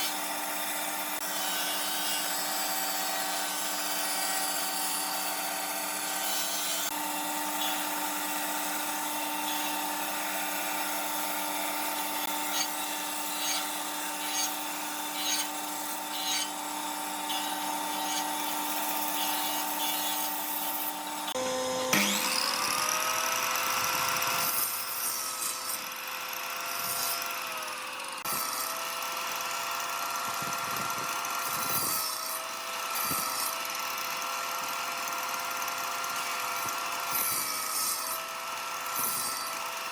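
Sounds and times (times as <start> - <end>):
power tool motor whine: 0.0 - 39.9
motor spinning up: 6.8 - 39.9.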